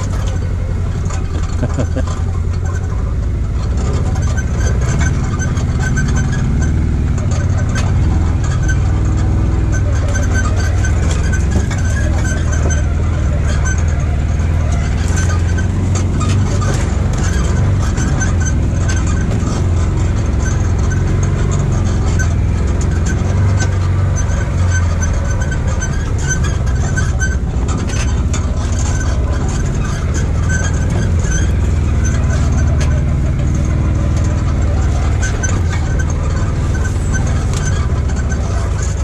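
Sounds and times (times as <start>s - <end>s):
utility vehicle engine running: 0.0s - 39.0s
vehicle knocks and rattles: 0.0s - 39.0s.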